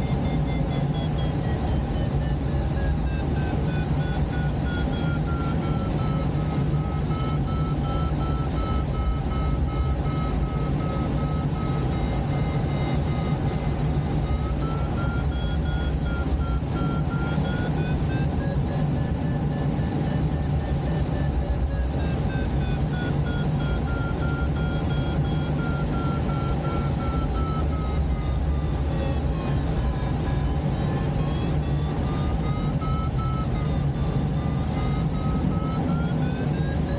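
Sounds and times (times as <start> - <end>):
air rushing past cockpit: 0.0 - 36.9
variometer electronic tone: 0.0 - 36.9.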